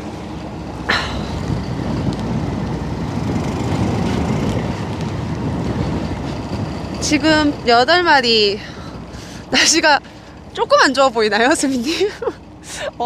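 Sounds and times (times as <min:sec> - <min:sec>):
wind rumbling on microphone: 0:00.0 - 0:12.6
fishing boat engine drone: 0:00.0 - 0:13.0.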